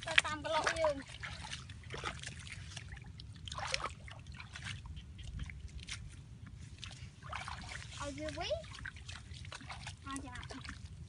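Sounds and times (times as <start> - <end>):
hands splashing muddy water: 0.0 - 11.0.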